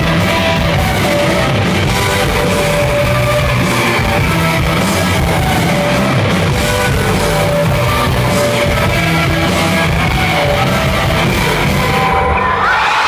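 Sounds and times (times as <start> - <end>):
live rock band playing: 0.0 - 12.7.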